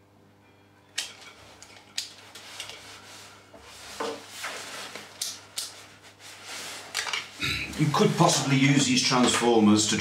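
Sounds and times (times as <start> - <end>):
faint steady hum: 0.0 - 10.0
objects rubbing and scraping: 1.2 - 9.3.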